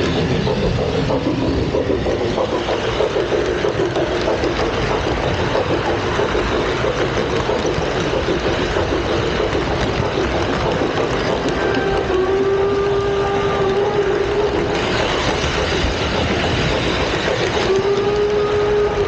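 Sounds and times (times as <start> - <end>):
model train wheels rattling: 0.0 - 19.0.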